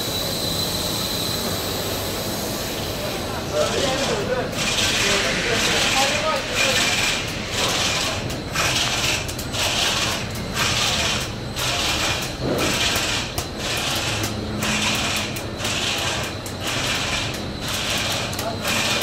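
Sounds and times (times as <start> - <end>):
pulsing hiss: 0.0 - 19.0
machinery clattering: 3.5 - 19.0.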